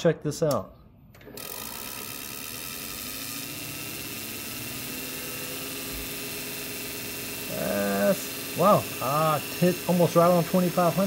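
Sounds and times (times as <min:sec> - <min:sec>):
motor whirring: 0:01.2 - 0:11.0.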